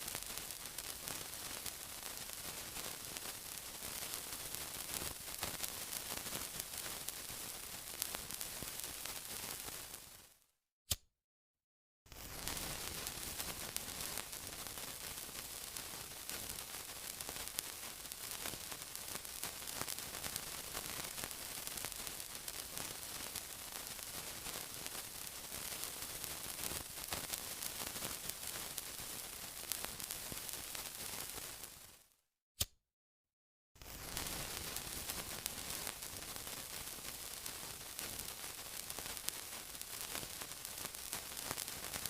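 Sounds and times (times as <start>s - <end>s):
sizzling with crackles: 0.0s - 10.4s, 12.1s - 32.2s, 33.8s - 42.0s.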